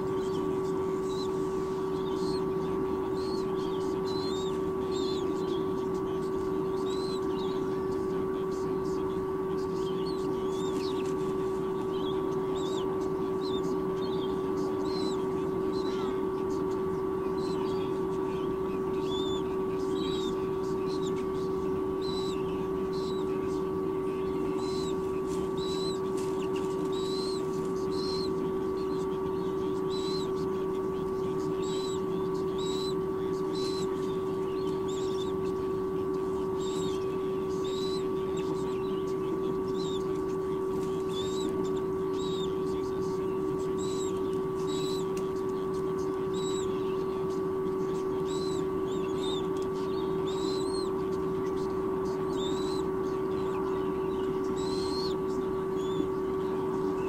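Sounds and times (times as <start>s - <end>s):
eagle nestlings peeping: 0.0s - 57.0s
steady hum: 0.0s - 57.0s.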